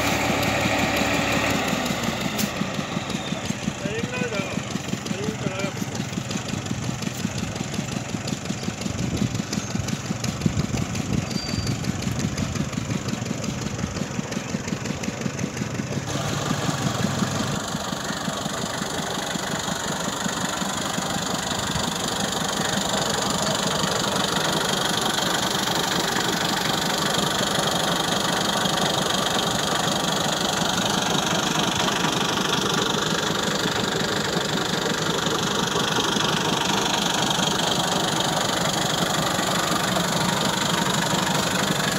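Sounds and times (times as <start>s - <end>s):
tractor diesel engine knocking: 0.0s - 41.9s.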